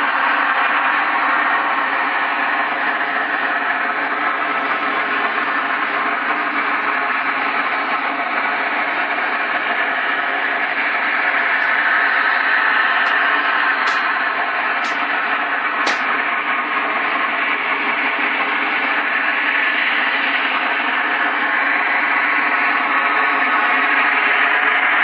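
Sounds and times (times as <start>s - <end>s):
loud layered drone: 0.0s - 25.0s.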